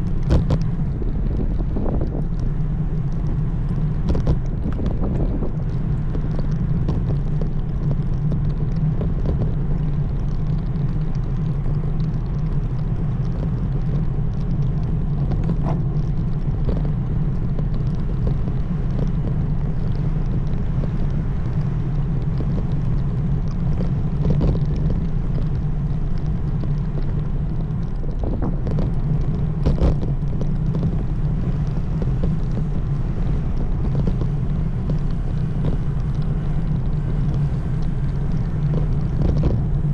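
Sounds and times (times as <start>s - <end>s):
bicycle tyre noise: 0.0s - 39.9s
wind rumble on camera: 0.0s - 39.9s.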